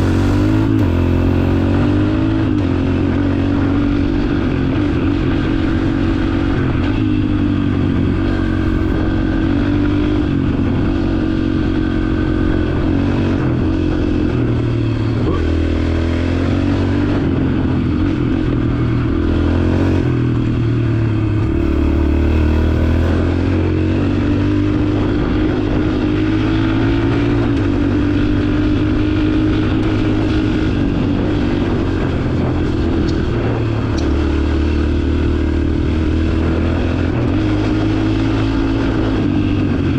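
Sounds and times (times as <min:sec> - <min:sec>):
trail bike engine revving: 0:00.0 - 0:39.9.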